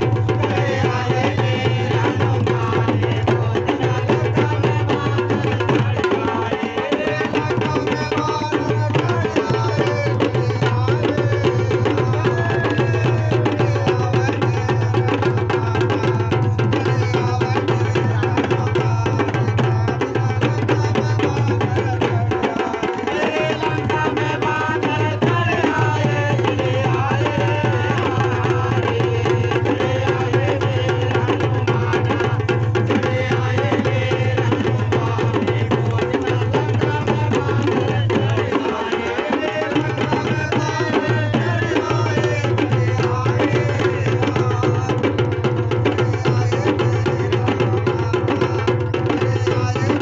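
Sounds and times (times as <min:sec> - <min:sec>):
barrel drums fast rhythm: 0:00.0 - 0:50.0
men singing: 0:00.0 - 0:50.0
small drums beaten with sticks: 0:00.0 - 0:50.0.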